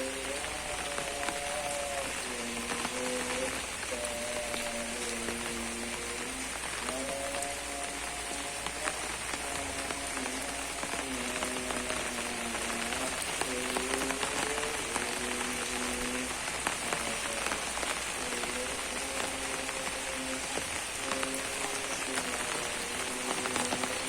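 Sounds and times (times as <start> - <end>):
faint slow melody: 0.0 - 24.0
rain falling: 0.0 - 24.0.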